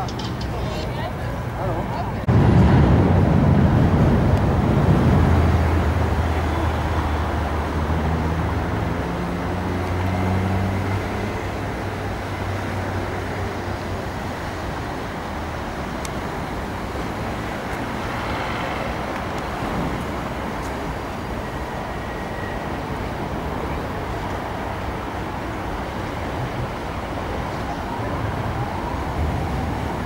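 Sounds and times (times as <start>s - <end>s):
heavy vehicle engine drone: 0.0s - 30.0s
road traffic noise: 0.0s - 30.0s.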